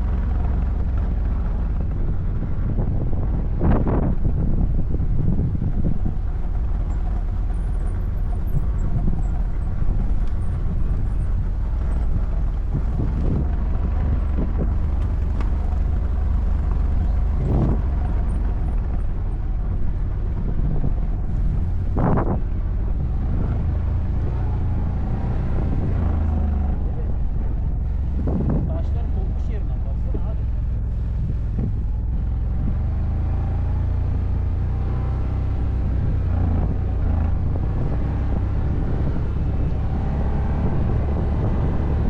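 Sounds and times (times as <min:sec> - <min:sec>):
atv engine running: 0:00.0 - 0:42.0
wind buffeting microphone: 0:00.0 - 0:42.0.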